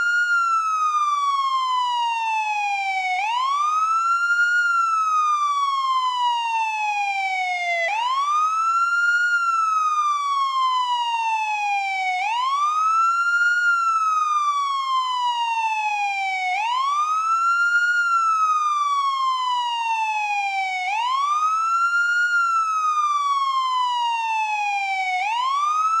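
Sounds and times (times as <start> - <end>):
police siren wailing: 0.0 - 26.0.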